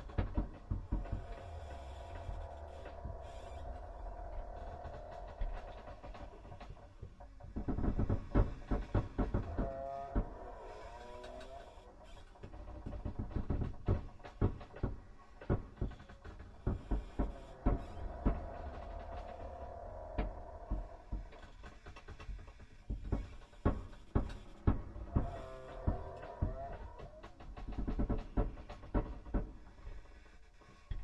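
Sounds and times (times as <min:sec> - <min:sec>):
knocks and bangs: 0:00.0 - 0:10.4, 0:12.6 - 0:22.2, 0:22.9 - 0:29.6.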